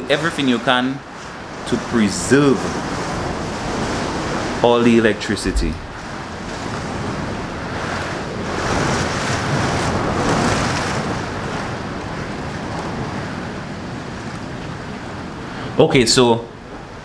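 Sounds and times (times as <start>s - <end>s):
storm wind rushing: 0.0s - 17.0s
wind buffeting microphone: 0.0s - 17.0s.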